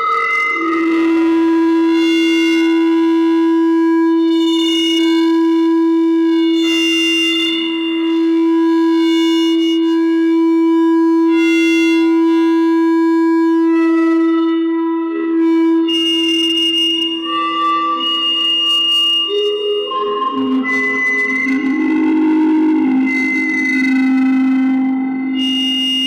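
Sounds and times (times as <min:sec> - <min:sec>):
electronic feedback drone: 0:00.0 - 0:26.0.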